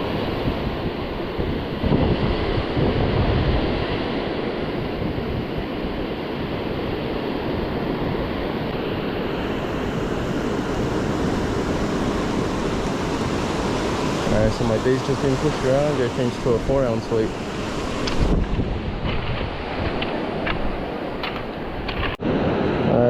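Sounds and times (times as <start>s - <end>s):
ocean surf breaking on beach: 0.0s - 23.0s
wind buffeting the microphone: 0.0s - 23.0s.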